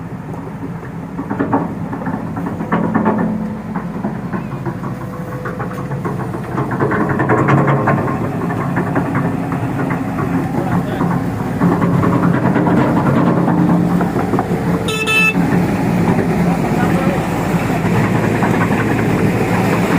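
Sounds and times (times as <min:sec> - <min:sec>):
excavator diesel engine revving: 0:00.1 - 0:19.9.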